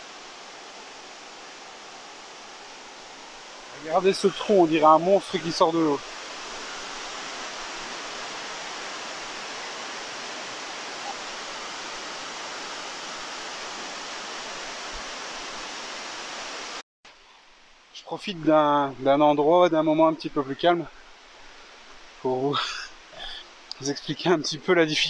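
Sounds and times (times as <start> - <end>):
waterfall rushing: 0.0 - 16.8, 18.9 - 25.0
faint hiss: 0.0 - 25.0.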